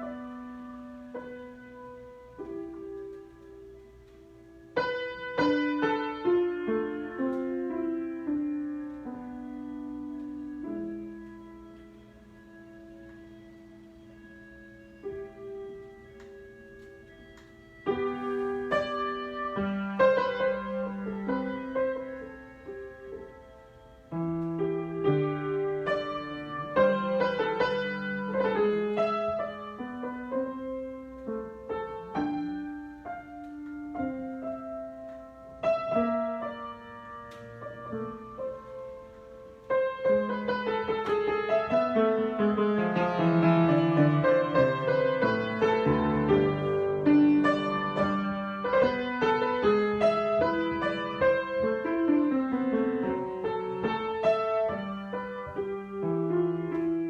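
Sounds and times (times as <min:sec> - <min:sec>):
solo piano improvisation: 0:00.0 - 0:57.0.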